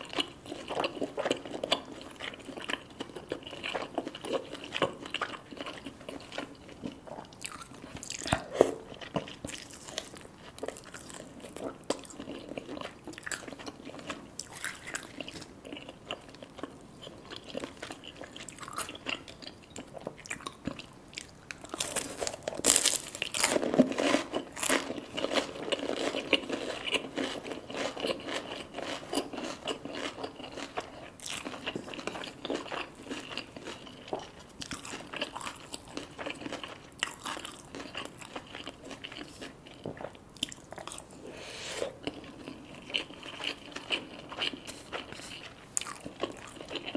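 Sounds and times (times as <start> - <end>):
crunching crisp fried food: 0.0 - 41.2, 41.9 - 46.9.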